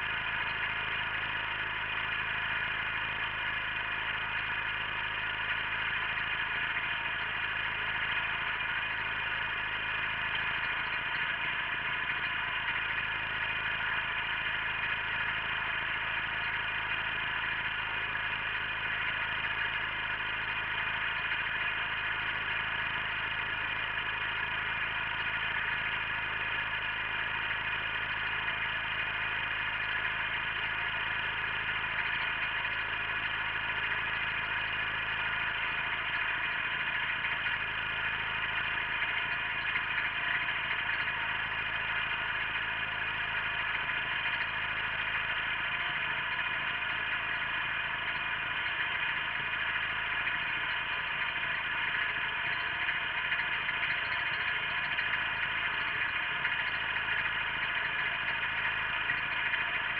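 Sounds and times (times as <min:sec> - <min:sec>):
garden tractor engine under load: 0:00.0 - 0:59.9.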